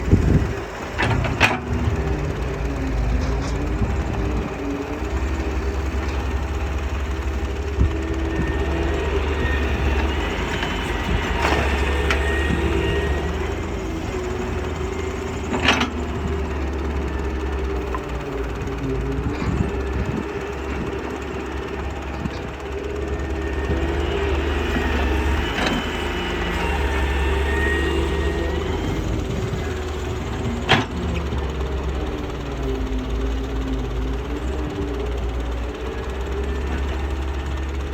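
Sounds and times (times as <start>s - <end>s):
excavator engine running: 0.0s - 37.9s.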